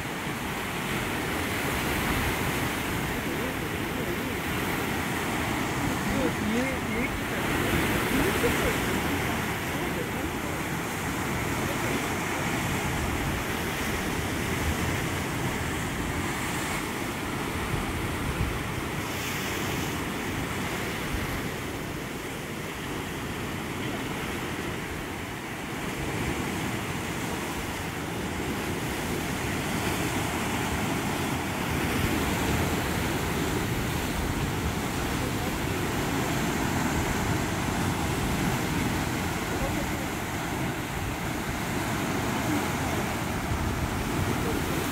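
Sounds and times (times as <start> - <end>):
ocean surf breaking on cliffs: 0.0 - 44.9.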